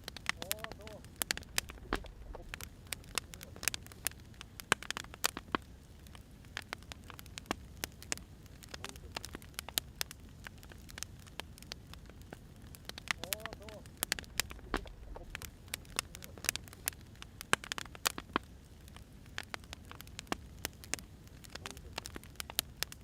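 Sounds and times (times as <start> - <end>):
low steady hiss: 0.0 - 23.0
wood fire crackling and popping: 0.0 - 23.0.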